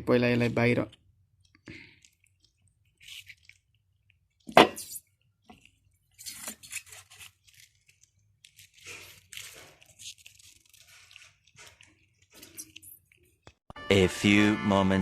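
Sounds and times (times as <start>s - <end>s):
slime squelching: 0.4s - 13.7s.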